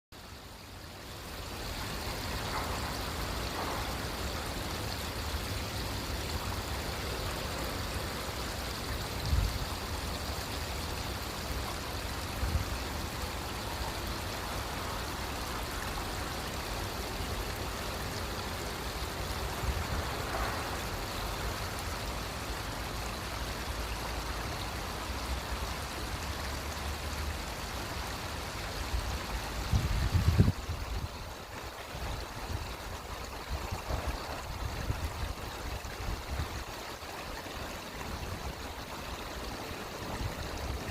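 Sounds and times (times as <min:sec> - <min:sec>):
flowing water rushing: 0:00.2 - 0:40.9.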